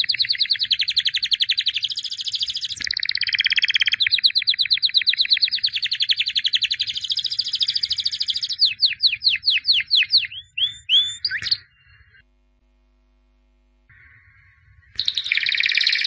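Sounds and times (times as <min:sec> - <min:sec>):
canary singing: 0:00.0 - 0:12.2, 0:13.9 - 0:16.0.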